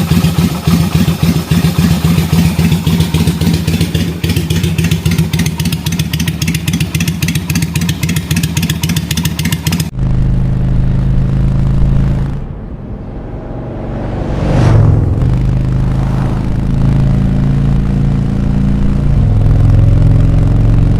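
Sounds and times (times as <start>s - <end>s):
motorcycle engine running: 0.0s - 13.6s, 14.6s - 20.9s.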